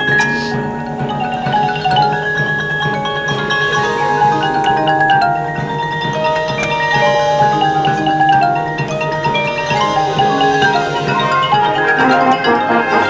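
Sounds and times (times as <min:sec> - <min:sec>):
glockenspiel: 0:00.0 - 0:13.0
marching band playing: 0:00.0 - 0:13.0
marimba: 0:00.0 - 0:13.0.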